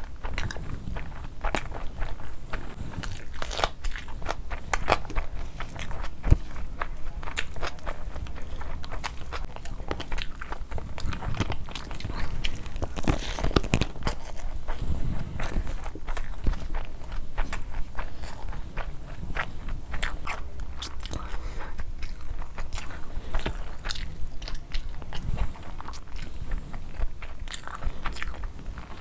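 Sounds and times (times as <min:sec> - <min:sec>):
chewing mouth sounds: 0:00.0 - 0:29.0.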